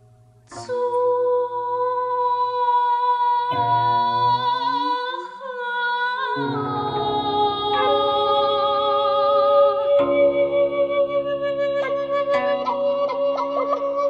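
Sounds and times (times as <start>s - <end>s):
woman singing: 0.5s - 14.0s.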